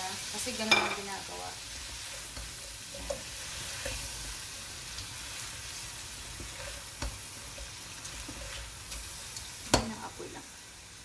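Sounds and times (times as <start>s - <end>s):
shrimp sizzling in pot: 0.0s - 11.0s.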